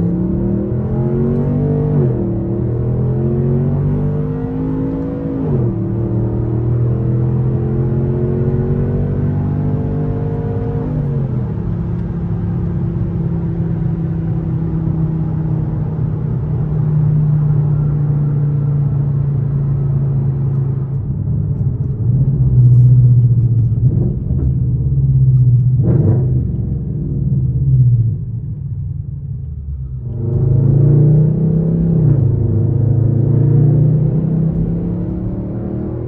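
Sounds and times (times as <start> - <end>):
car engine droning: 0.0 - 36.0.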